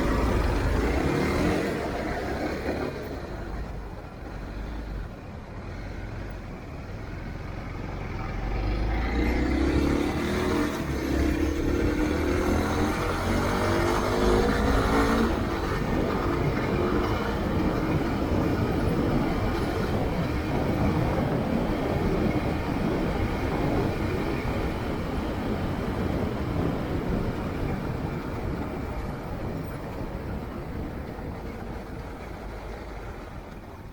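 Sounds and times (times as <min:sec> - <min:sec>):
road and traffic noise: 0:00.0 - 0:33.9
vehicle engine: 0:00.0 - 0:33.9.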